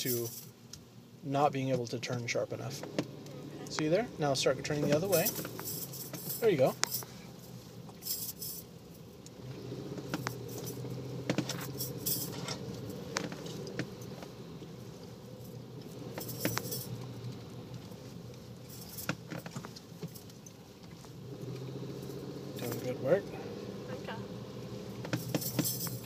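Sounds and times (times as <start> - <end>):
light clicks and jingles: 0.0 - 0.8, 1.6 - 26.0
truck engine hum from cab: 0.0 - 26.0.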